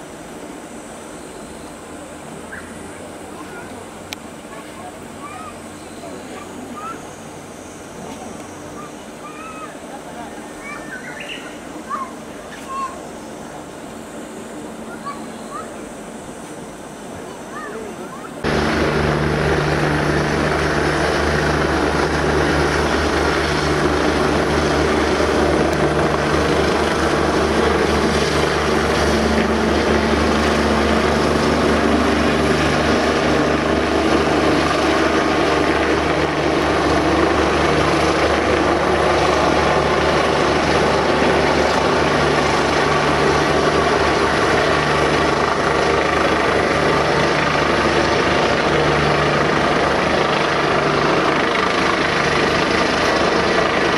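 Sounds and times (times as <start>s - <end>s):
helicopter rotor beating: 1.5s - 53.9s.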